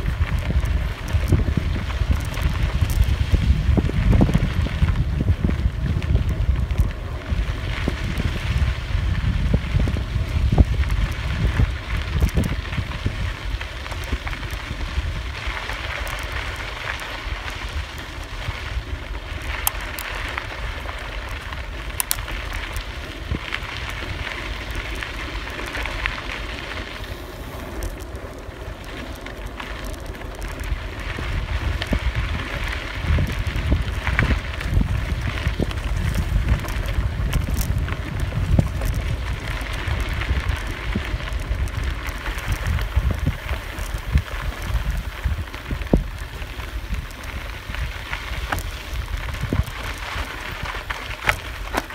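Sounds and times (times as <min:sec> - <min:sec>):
bicycle tyres crunching over dirt: 0:00.0 - 0:51.9
bike rattles and clicks: 0:00.0 - 0:51.9
wind buffeting microphone: 0:00.0 - 0:51.9.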